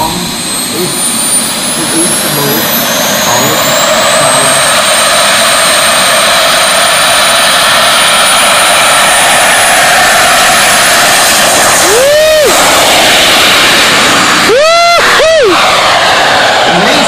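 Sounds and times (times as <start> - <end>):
model jet engines whining: 0.0 - 17.0.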